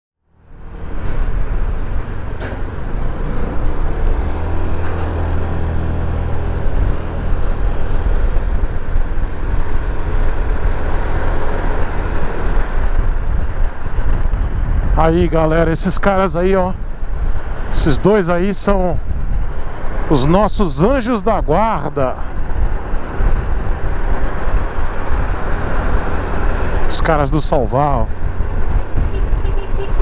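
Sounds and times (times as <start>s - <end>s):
wind and road noise: 0.2s - 30.0s.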